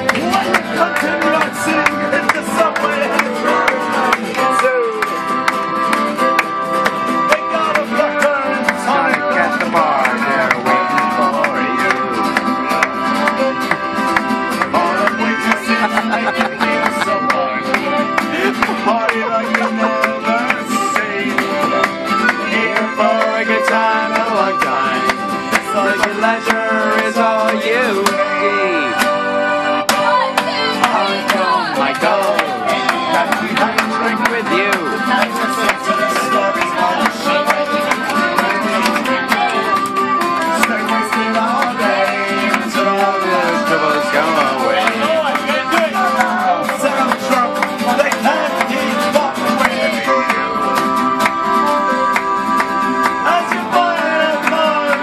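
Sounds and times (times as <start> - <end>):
man singing: 0.0 - 5.5, 7.1 - 29.8, 30.8 - 55.0
acoustic guitar strumming: 0.0 - 55.0
fiddles playing: 0.0 - 55.0.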